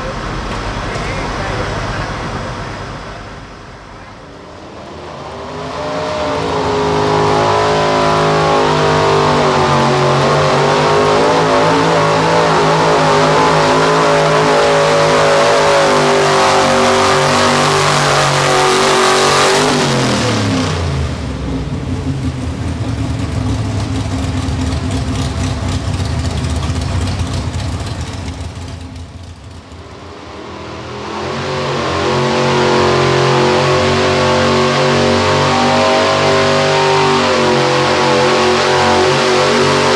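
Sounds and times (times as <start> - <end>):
truck engine at high revs: 0.0 - 39.9.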